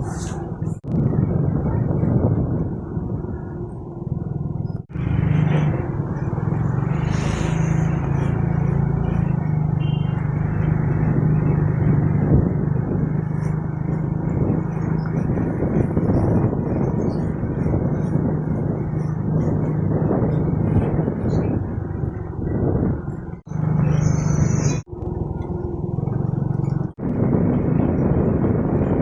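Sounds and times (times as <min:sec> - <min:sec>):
motorcycle engine hum: 0:00.0 - 0:29.0
wind and road noise: 0:00.0 - 0:29.0.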